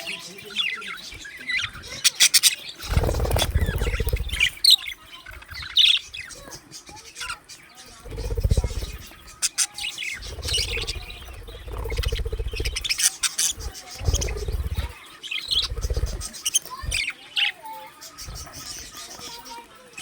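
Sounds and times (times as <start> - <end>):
budgerigars chirping: 0.0 - 20.0.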